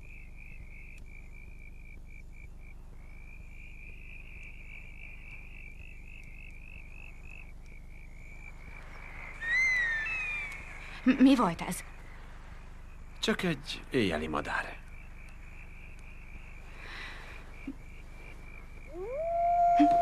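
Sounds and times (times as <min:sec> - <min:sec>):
frogs trilling: 0:00.0 - 0:20.0.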